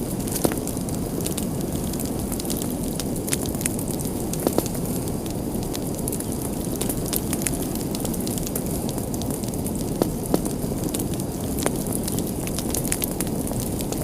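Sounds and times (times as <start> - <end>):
low rush of flames: 0.0 - 14.0
wood fire crackling and popping: 0.0 - 14.0.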